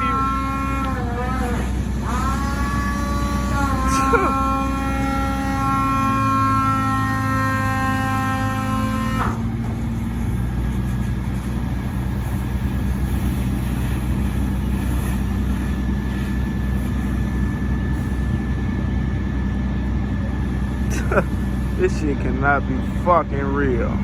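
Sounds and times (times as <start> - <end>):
engine idling hum: 0.0 - 24.0
faint steady whine: 0.0 - 24.0.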